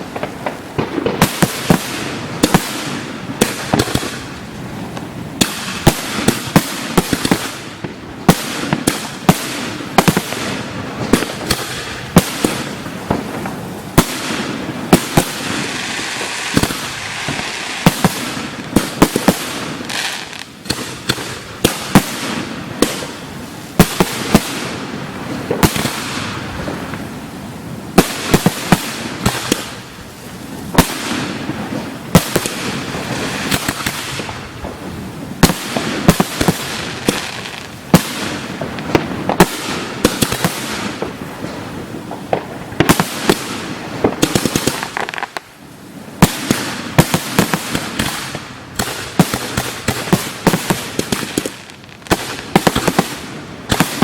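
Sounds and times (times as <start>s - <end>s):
fireworks booming: 0.0s - 54.0s
fireworks crackling hiss: 0.0s - 54.0s.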